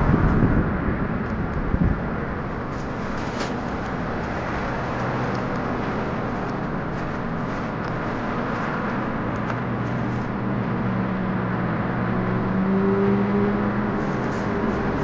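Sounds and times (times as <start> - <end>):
engine hum: 0.0 - 15.0
passing cars: 0.0 - 15.0.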